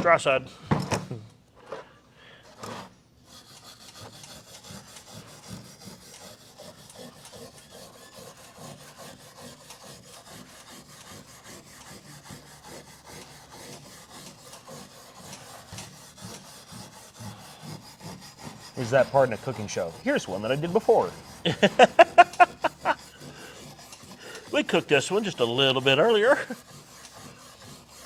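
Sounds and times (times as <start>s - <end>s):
scrubbing on wooden board: 3.3s - 28.0s.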